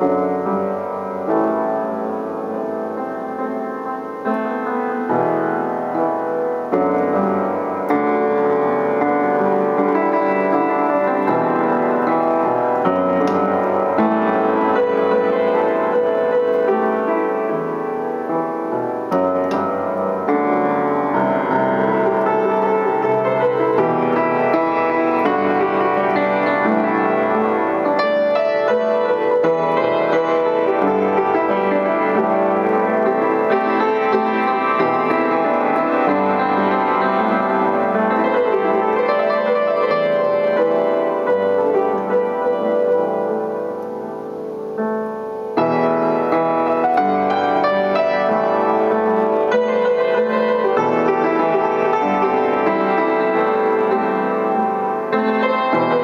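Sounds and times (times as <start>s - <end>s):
upright piano chords: 0.0s - 56.0s.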